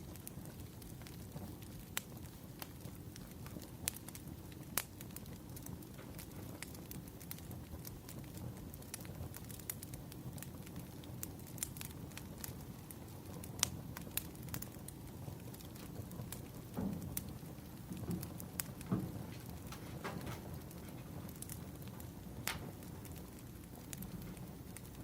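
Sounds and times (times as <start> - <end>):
fire crackles and pops: 0.0 - 25.0
low rush of flames: 0.0 - 25.0.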